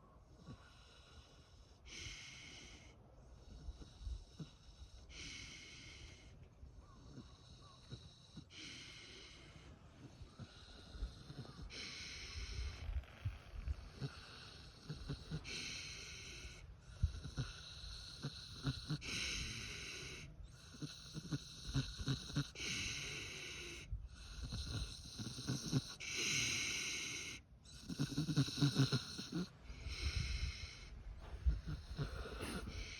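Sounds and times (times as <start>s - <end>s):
pig snoring: 0.0s - 32.9s.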